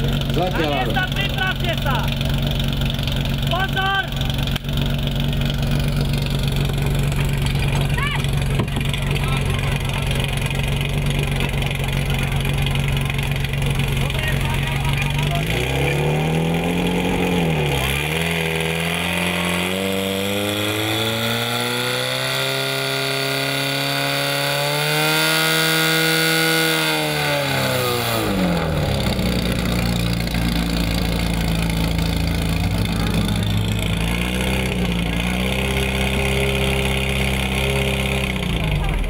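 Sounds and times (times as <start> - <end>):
fire pump engine revving: 0.0 - 39.0.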